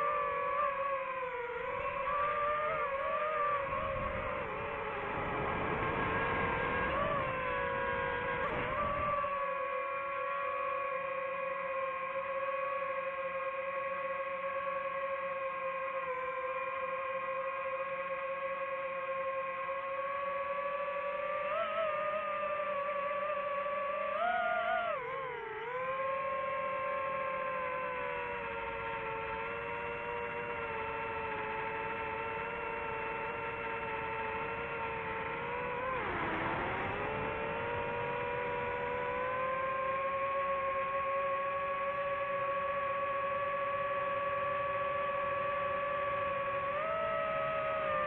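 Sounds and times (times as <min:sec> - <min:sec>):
drone propellers whining: 0:00.0 - 0:48.0.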